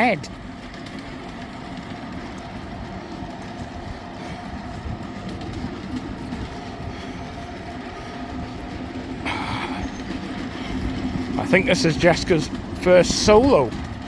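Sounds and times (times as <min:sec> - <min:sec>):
train wheels clicking over rails: 0:00.0 - 0:14.0.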